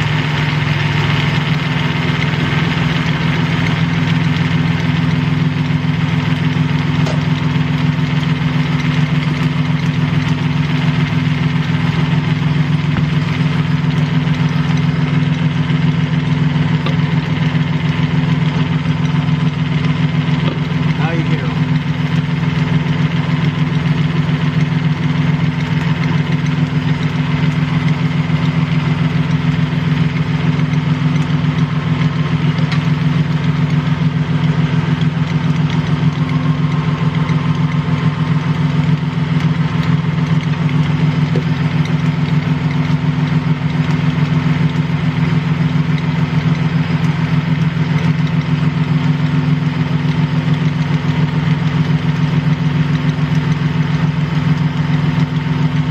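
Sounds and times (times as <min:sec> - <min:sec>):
truck engine idling with ticking: 0:00.0 - 0:55.9.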